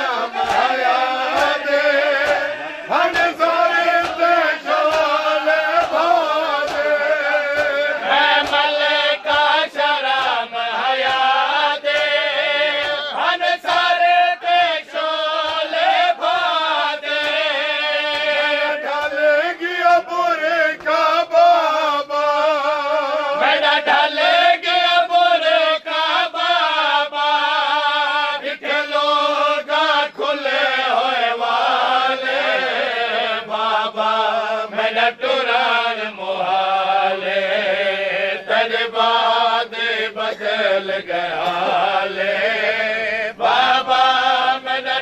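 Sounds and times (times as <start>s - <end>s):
men chanting a lament: 0.0s - 45.0s.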